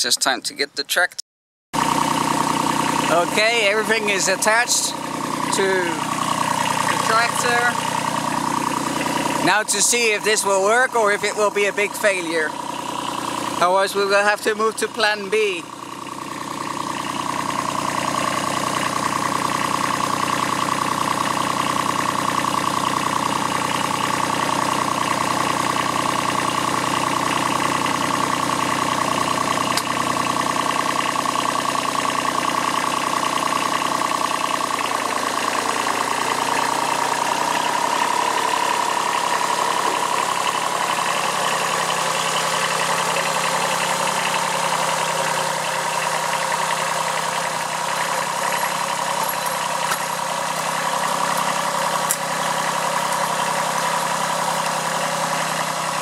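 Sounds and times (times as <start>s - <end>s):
tractor diesel engine running: 1.8s - 56.0s.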